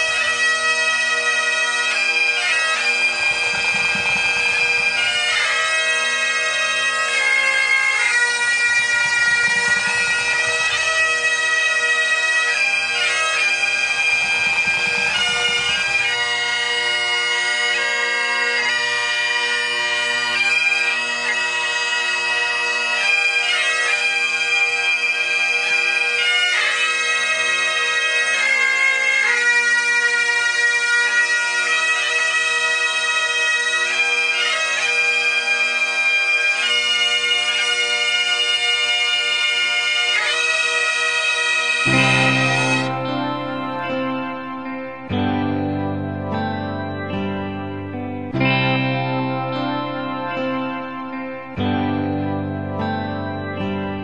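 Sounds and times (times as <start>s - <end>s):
bagpipes playing a slow hymn: 0.0s - 54.0s.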